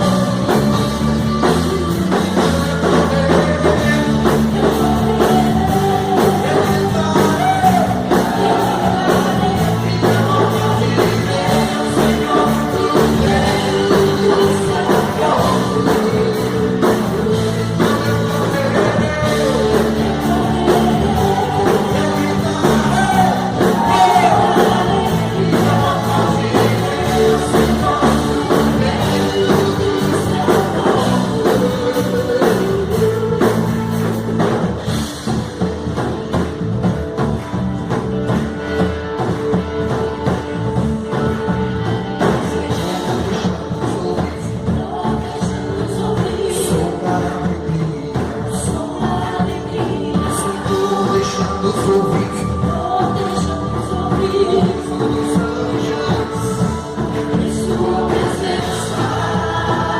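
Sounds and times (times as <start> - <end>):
voices singing: 0.0 - 35.4, 39.2 - 59.9
live rock band playing: 0.0 - 59.9.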